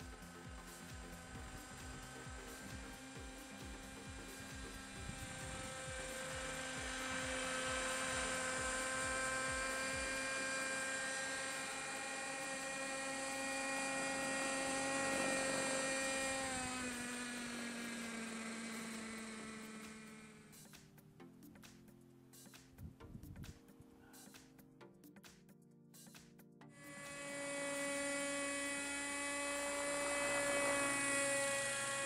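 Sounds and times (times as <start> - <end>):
model helicopter engine whining: 0.0 - 20.8, 26.7 - 32.0.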